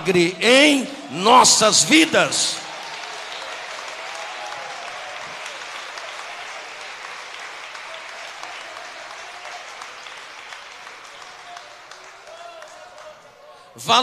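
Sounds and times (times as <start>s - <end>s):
congregation applauding: 0.0s - 14.0s.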